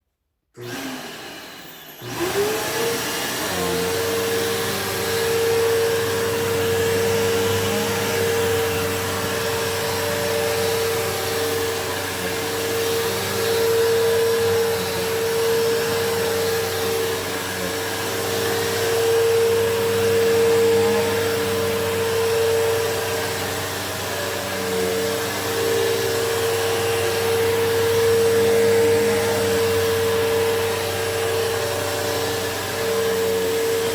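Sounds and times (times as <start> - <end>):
vacuum cleaner motor whine: 0.6 - 33.9.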